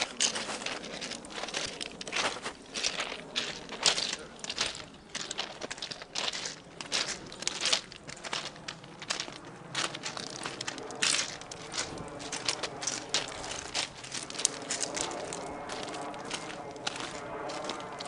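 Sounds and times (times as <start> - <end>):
footsteps crunching on gravel: 0.0 - 18.0.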